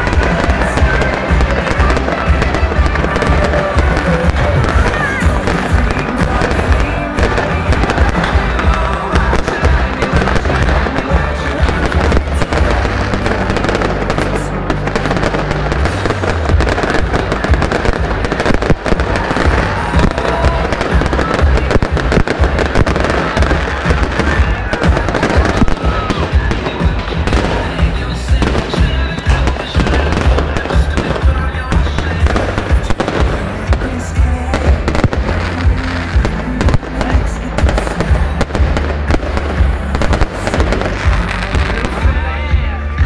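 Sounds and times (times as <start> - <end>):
fireworks bursting and crackling: 0.0 - 43.0
music playing: 0.0 - 43.0.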